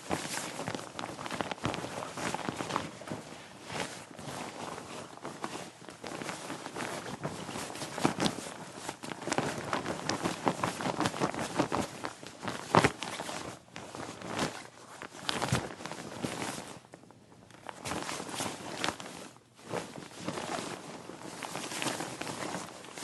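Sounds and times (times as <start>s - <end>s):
coat fabric rustling: 0.0s - 23.0s.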